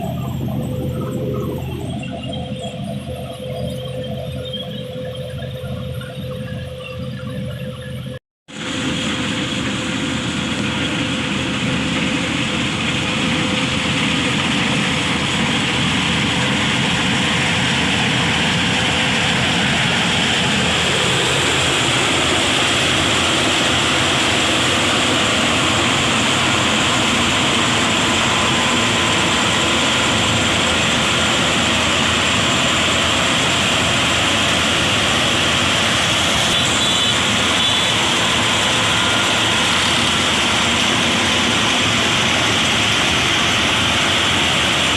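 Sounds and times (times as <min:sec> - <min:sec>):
harvesting machine running: 0:00.0 - 0:44.9.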